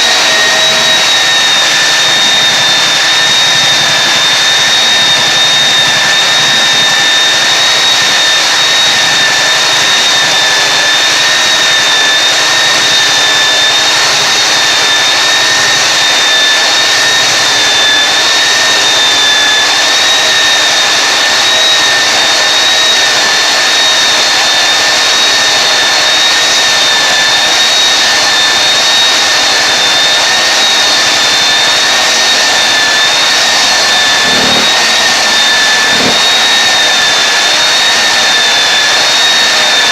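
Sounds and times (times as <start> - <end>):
floor sander grinding with high whine: 0.0 - 39.9.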